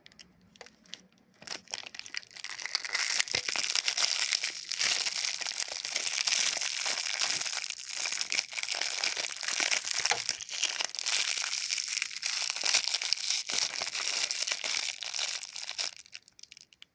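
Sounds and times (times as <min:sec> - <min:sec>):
plastic wrapper crinkling: 0:00.0 - 0:16.9.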